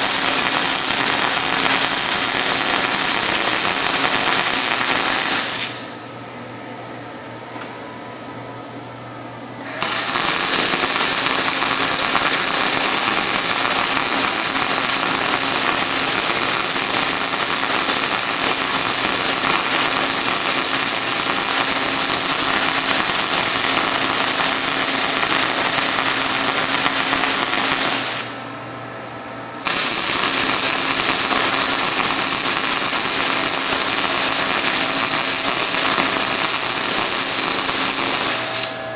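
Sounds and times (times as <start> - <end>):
welder arc crackling: 0.0 - 5.9, 9.6 - 28.4, 29.6 - 38.8.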